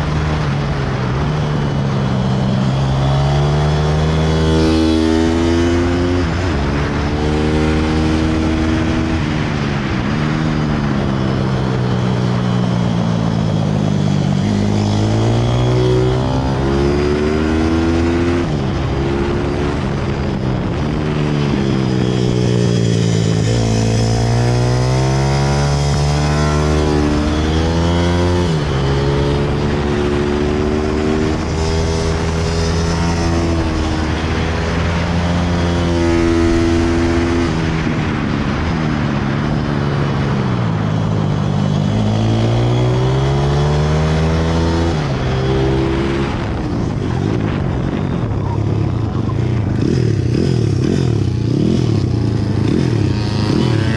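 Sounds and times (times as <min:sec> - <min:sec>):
motorbike engine accelerating: 0:00.0 - 0:53.9
wind noise: 0:00.0 - 0:53.9.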